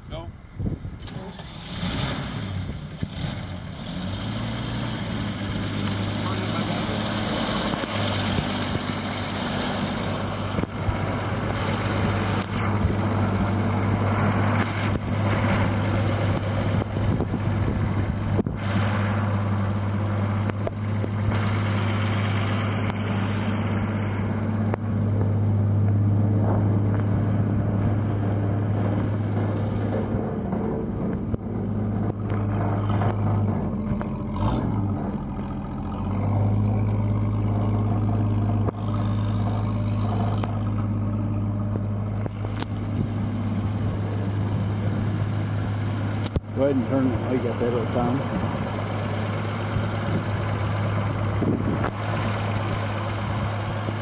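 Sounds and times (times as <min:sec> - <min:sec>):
pickup truck engine idling: 0:05.0 - 0:54.0.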